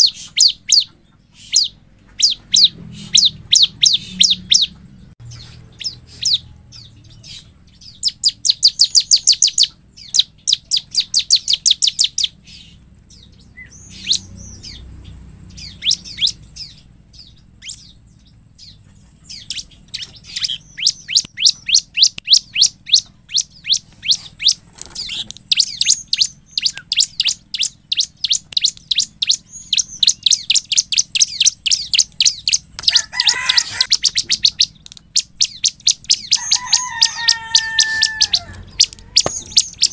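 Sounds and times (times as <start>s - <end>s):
bird chirping in trills: 0.0s - 39.9s.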